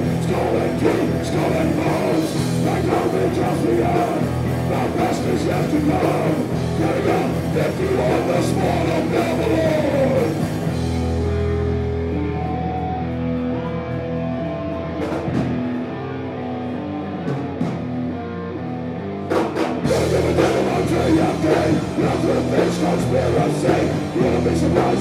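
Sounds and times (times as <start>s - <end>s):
drum kit playing: 0.0s - 13.0s, 14.2s - 15.9s, 19.2s - 25.0s
bass guitar: 0.0s - 25.0s
electric guitar riff: 0.0s - 25.0s.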